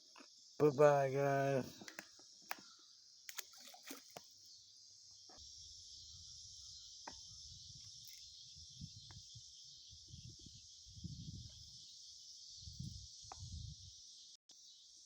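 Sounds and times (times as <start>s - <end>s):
faint high-pitched insect chorus: 0.0s - 15.0s.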